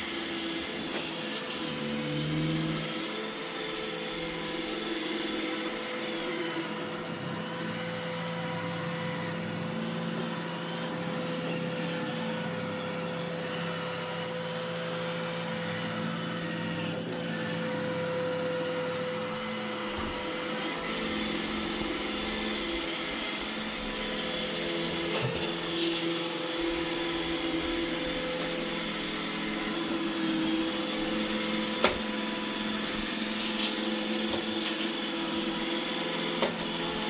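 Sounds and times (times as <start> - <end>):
robot vacuum motor whine: 0.0 - 37.0.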